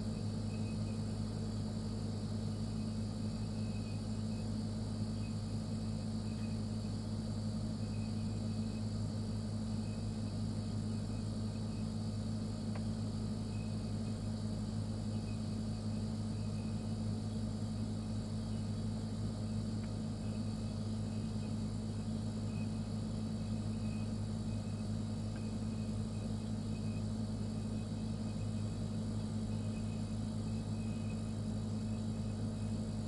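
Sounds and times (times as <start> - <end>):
refrigerator compressor humming: 0.0 - 33.0.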